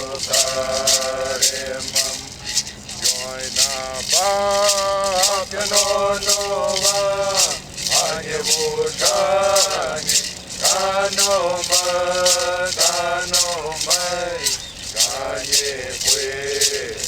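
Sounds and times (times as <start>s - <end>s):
hand rattle shaken: 0.0s - 17.0s
person singing long gliding notes: 0.0s - 17.0s.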